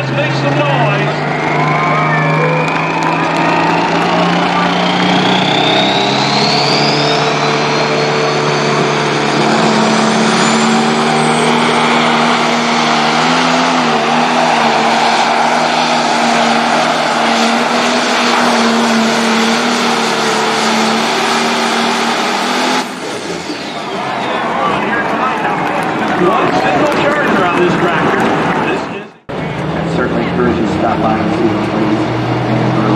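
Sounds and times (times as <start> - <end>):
high engine whine: 0.0 - 32.9
tractor diesel engine under load: 0.0 - 32.9.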